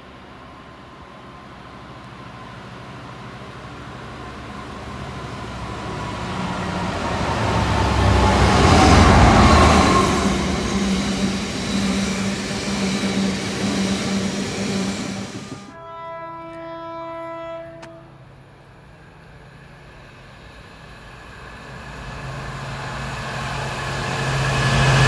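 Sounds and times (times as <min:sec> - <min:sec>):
diesel locomotive passing: 0:00.0 - 0:25.0.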